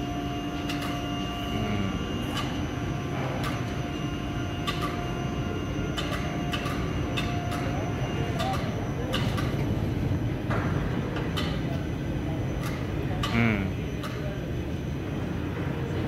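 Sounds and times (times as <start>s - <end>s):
crane mechanical rumble and hum: 0.0s - 16.0s.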